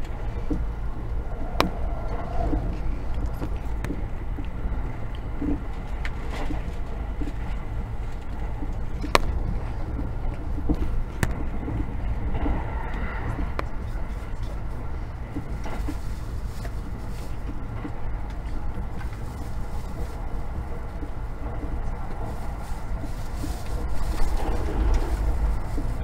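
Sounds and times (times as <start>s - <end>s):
train cabin low rumble: 0.0s - 26.0s.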